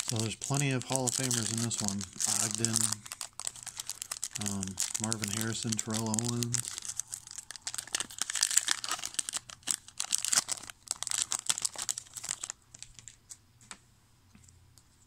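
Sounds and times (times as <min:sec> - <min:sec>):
foil wrapper crinkling: 0:00.0 - 0:13.4.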